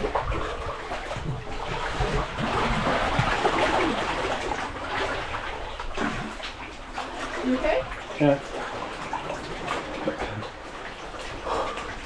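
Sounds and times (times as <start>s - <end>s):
seawater sloshing and splashing: 0.0s - 12.0s.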